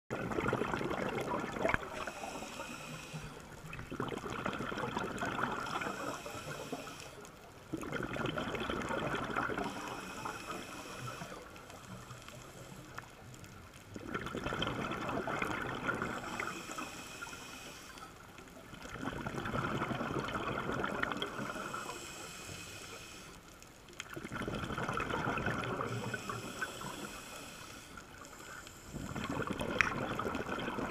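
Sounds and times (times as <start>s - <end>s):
underwater breath bubbling: 0.1s - 30.9s.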